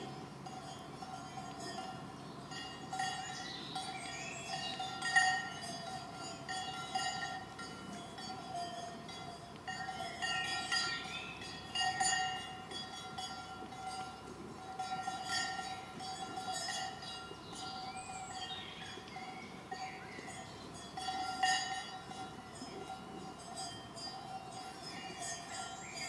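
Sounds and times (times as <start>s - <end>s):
cowbell ringing: 0.0s - 26.0s.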